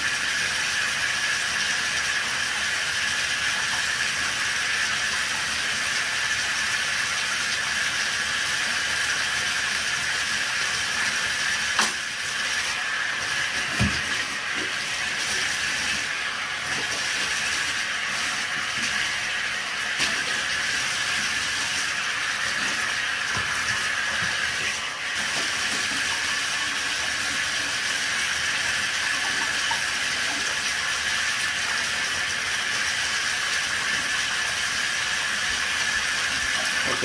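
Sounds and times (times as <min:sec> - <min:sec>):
water running: 0:00.0 - 0:37.0.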